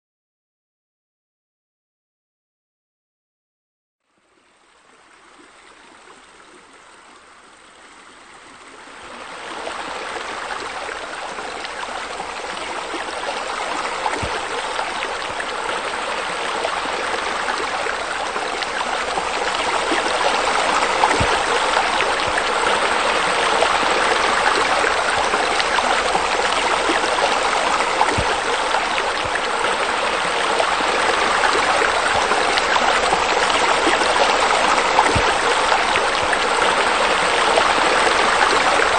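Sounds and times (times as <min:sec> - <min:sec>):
fountain water splashing: 0:04.2 - 0:38.9.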